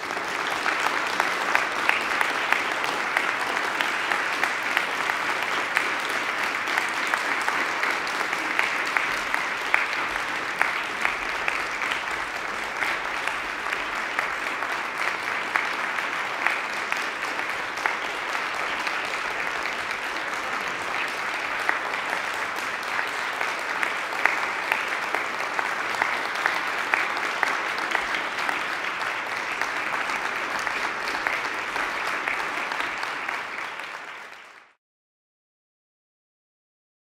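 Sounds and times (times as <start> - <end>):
audience applauding: 0.0 - 34.8.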